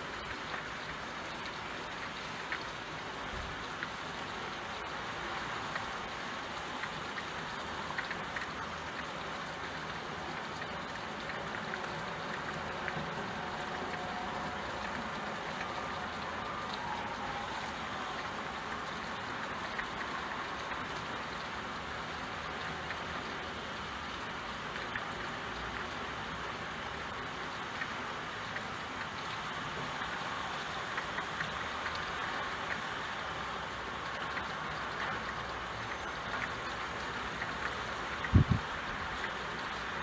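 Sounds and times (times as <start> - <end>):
steady rain hiss: 0.0 - 40.0
raindrop ticks: 0.1 - 40.0.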